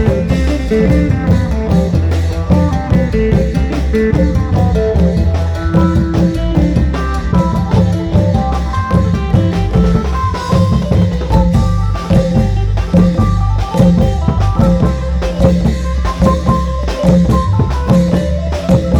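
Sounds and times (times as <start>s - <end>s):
long drums beating rhythm: 0.0s - 18.9s.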